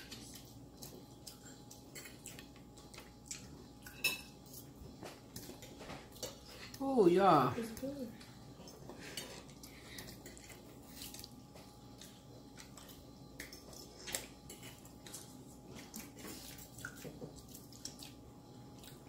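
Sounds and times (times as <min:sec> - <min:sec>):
wet chewing: 0:00.0 - 0:06.8, 0:08.6 - 0:19.0.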